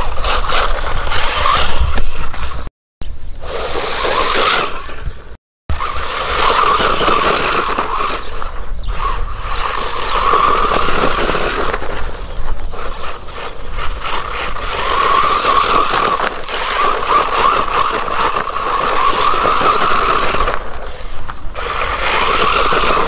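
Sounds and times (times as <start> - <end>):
electric toy car motor whining: 0.0 - 2.7, 3.4 - 23.0.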